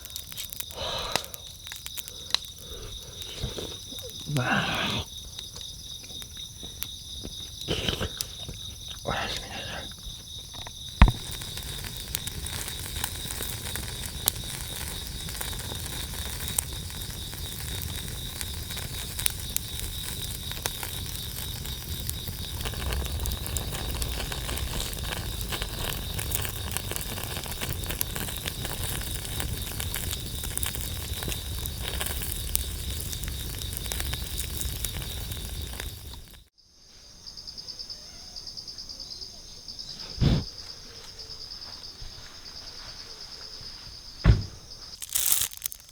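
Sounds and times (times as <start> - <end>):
campfire crackling and popping: 0.0 - 36.5, 45.0 - 45.9
crickets chirping: 0.0 - 45.9.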